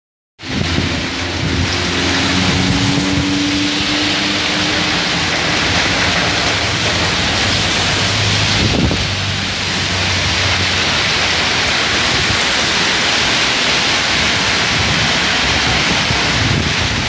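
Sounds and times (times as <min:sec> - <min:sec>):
passing traffic engine hum: 0:00.4 - 0:16.4
heavy rain on wet road: 0:00.4 - 0:17.0.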